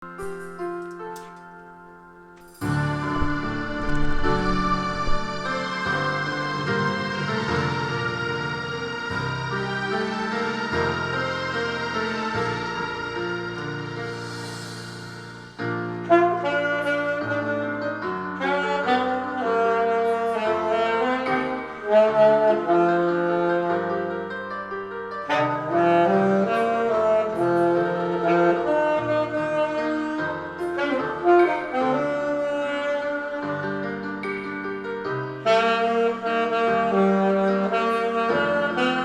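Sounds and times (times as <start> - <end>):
karaoke backing track: 2.4 - 39.0
saxophone playing slow ballad: 2.6 - 39.0.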